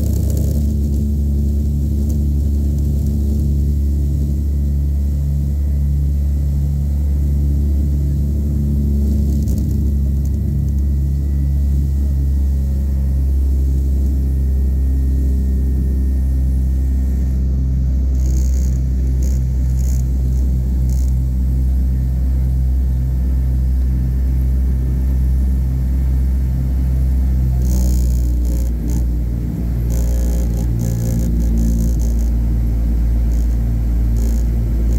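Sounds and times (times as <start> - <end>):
propeller plane engines droning: 0.0 - 34.9.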